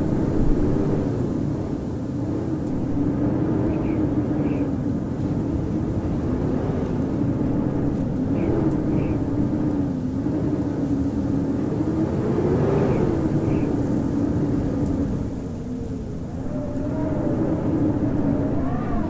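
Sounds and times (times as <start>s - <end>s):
howling blizzard wind: 0.0s - 19.0s.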